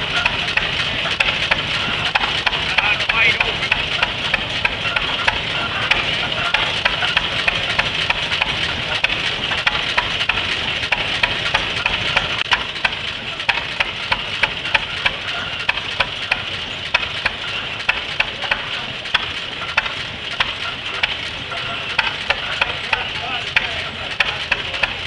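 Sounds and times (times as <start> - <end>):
engine running with sharp beat: 0.0 - 25.0.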